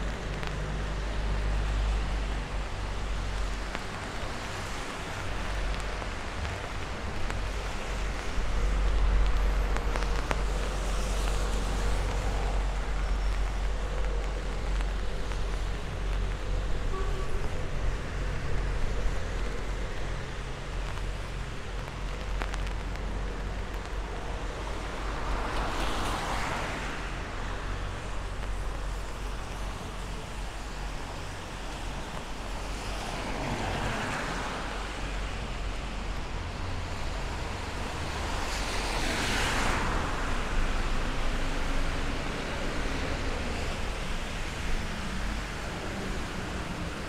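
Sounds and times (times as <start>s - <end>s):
traffic hiss on wet roads: 0.0s - 47.0s.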